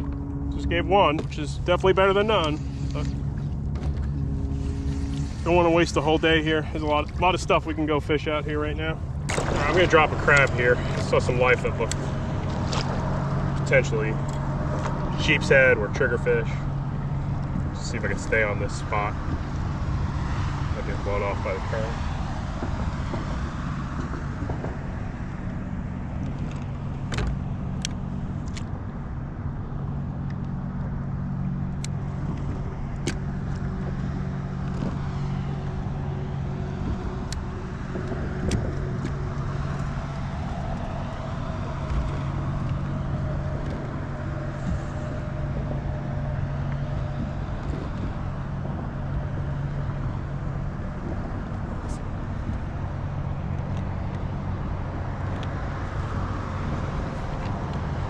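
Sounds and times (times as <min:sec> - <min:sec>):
boat motor humming: 0:00.0 - 0:58.0.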